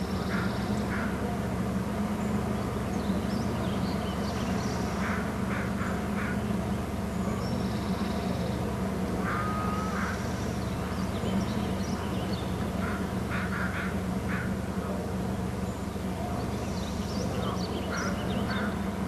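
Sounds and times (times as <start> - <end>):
birds calling: 0.0 - 19.0
steady low hum: 0.0 - 19.0.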